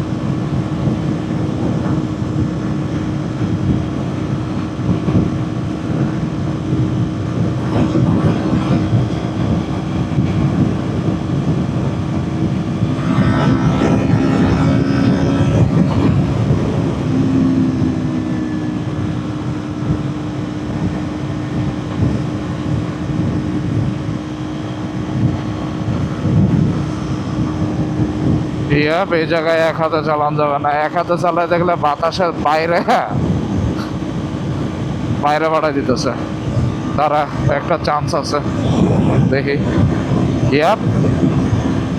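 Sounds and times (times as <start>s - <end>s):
motorcycle engine at high revs: 0.0s - 29.6s, 32.7s - 37.6s, 38.4s - 41.9s
wind buffeting microphone: 0.0s - 41.9s.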